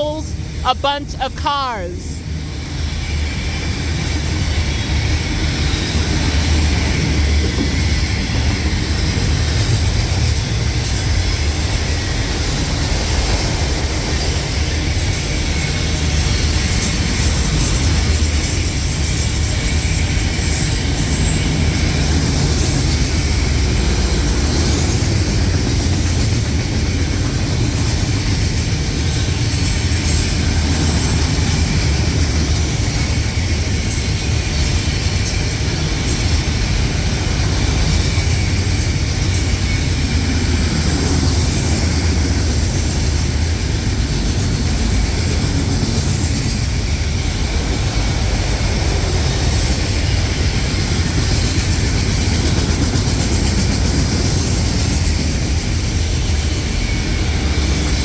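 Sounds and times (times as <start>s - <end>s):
train wheels rumbling on rails: 2.2s - 58.0s.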